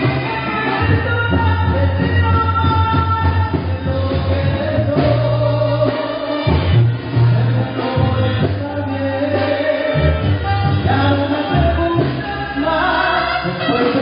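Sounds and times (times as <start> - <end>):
brass band playing: 0.0 - 14.0
person singing: 0.0 - 14.0.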